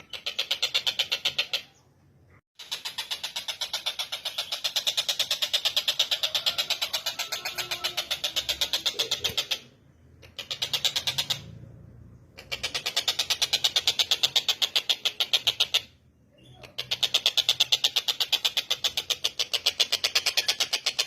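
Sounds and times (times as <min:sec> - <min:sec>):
bird chattering rattle: 0:00.0 - 0:01.8, 0:02.6 - 0:11.7, 0:12.3 - 0:21.0.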